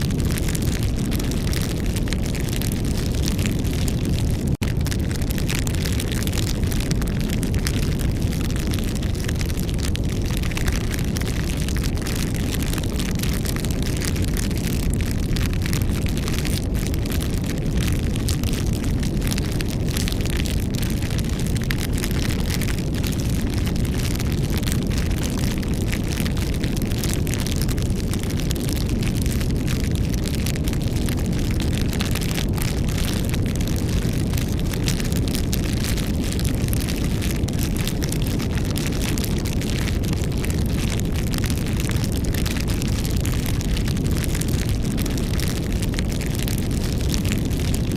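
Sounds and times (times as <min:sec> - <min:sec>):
campfire burning and crackling: 0:00.0 - 0:47.9.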